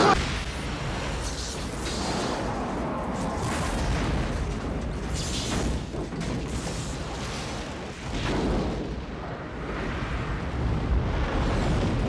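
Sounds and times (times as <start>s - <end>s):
explosion blasts and crackle: 0.0s - 12.0s.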